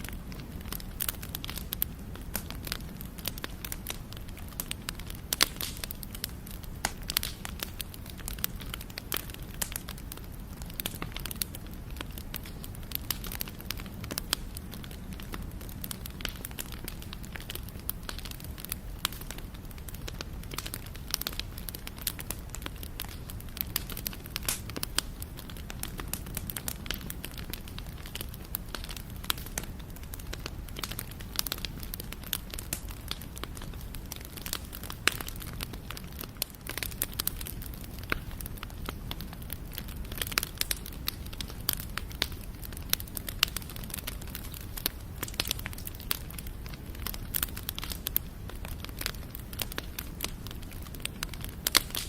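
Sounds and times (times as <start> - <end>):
fire popping and snapping: 0.0 - 52.0
flames rumbling: 0.0 - 52.0.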